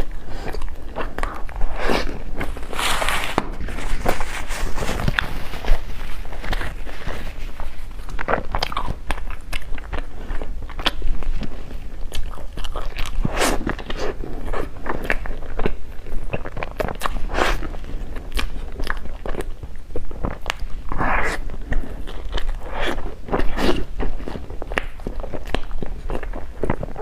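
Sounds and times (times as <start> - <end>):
mouth clicks and crunches: 0.0 - 27.0
wet chewing: 0.0 - 27.0.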